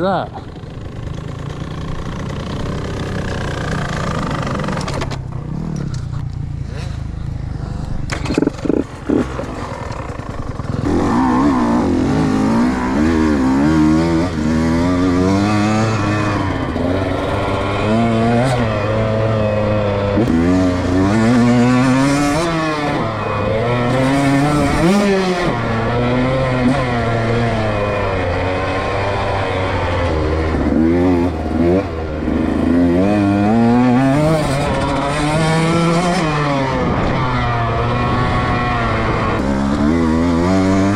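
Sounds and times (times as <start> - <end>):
dirt bike engine revving: 0.5 - 40.9.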